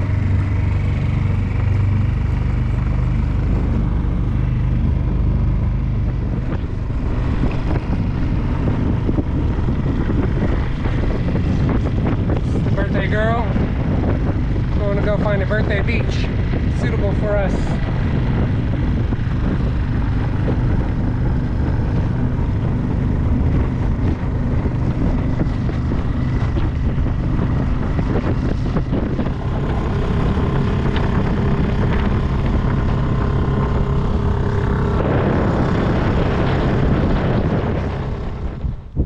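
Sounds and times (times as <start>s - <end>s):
outboard motor droning: 0.0s - 39.0s.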